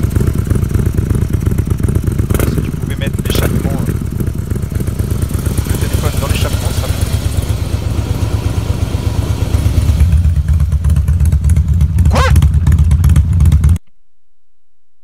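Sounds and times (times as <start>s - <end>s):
motorcycle exhaust rumble: 0.0s - 13.9s.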